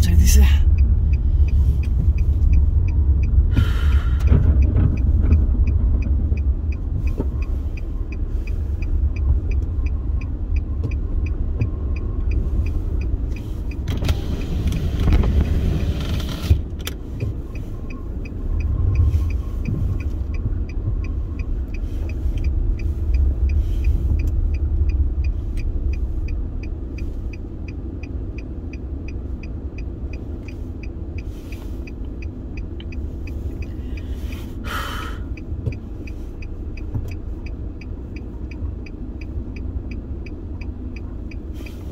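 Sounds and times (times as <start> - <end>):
light regular ticking: 0.0 - 41.9
low engine and road rumble: 0.0 - 41.9.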